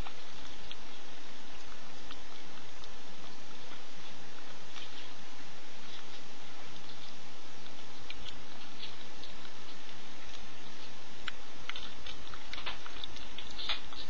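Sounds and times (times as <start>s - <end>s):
dog licking puppies: 0.0s - 14.0s
low hum and hiss: 0.0s - 14.0s.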